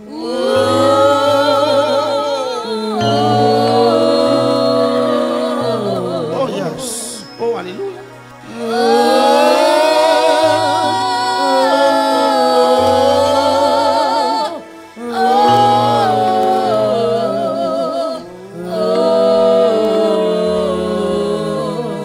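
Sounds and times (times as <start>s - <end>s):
person singing with vibrato: 0.0s - 22.0s.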